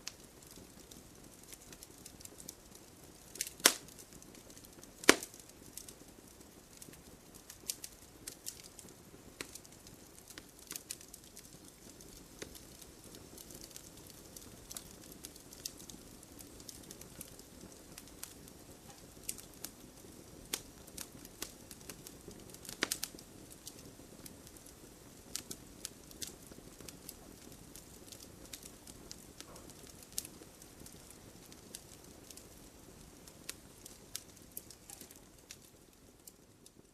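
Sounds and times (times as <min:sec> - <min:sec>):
campfire crackling and popping: 0:00.0 - 0:36.9
fire hissing: 0:00.0 - 0:36.9.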